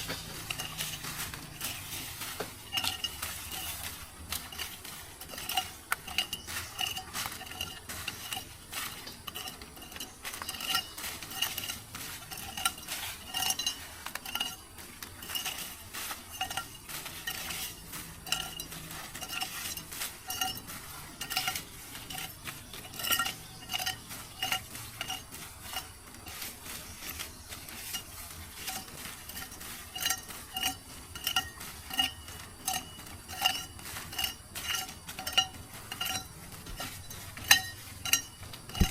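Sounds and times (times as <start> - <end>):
metal spoon clinking against pot: 0.0 - 26.4, 27.9 - 38.9
steady hiss: 0.0 - 38.9.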